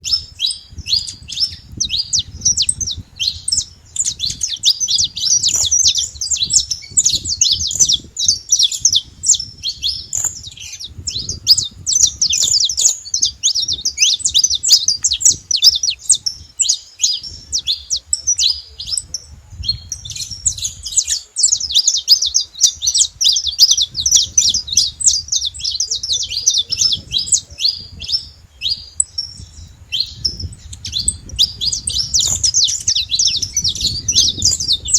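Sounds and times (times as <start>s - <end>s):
finch singing high chirps: 0.0s - 34.9s.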